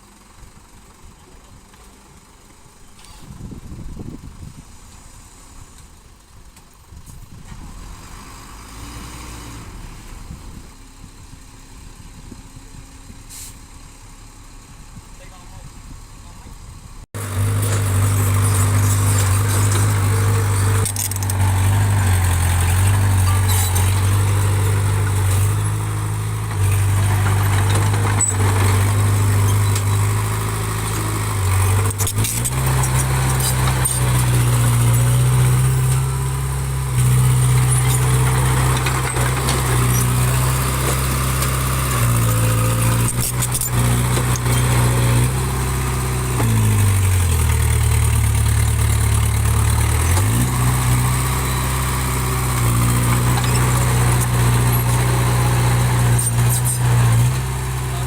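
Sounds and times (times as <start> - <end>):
diesel engine of earthmoving machine: 0.0 - 58.0.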